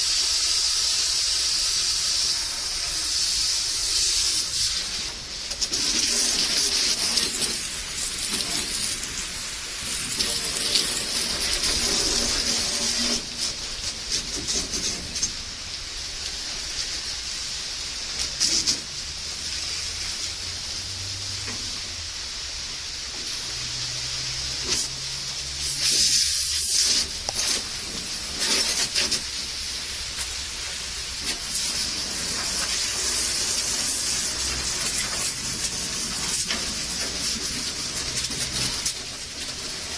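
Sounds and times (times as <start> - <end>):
water jet hissing on metal: 0.0 - 39.9.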